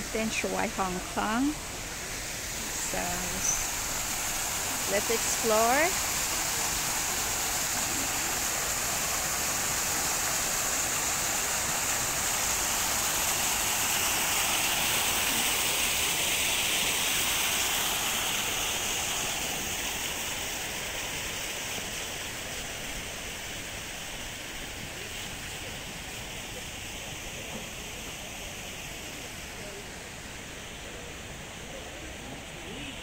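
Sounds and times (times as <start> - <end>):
fountain water splashing into pool: 0.0 - 33.0.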